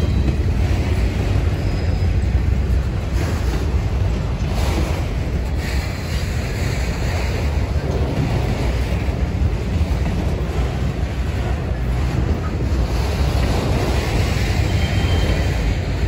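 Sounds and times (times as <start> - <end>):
train wheels rumbling on rail: 0.0 - 16.0
wind buffeting microphone: 0.0 - 16.0.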